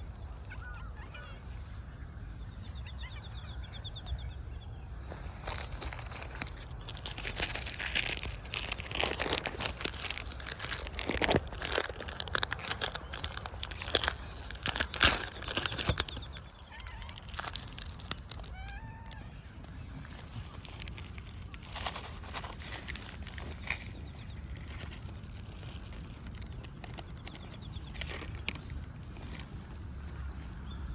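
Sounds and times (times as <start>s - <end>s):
cats crunching dry food: 5.0s - 30.8s.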